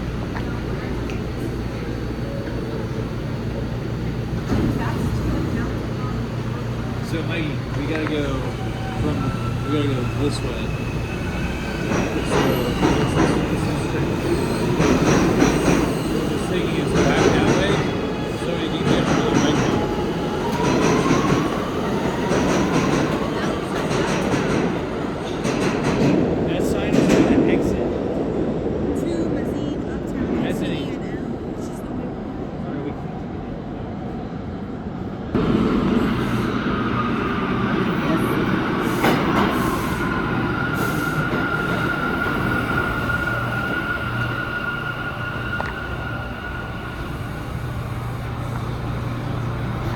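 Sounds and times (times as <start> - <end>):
subway train wheels rumbling: 0.0 - 49.9.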